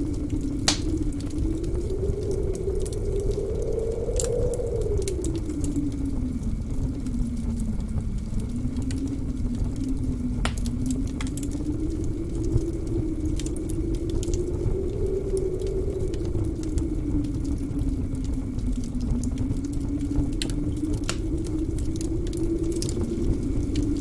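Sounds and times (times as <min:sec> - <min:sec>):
wind howling: 0:00.0 - 0:24.0
wood fire crackling and popping: 0:00.0 - 0:24.0.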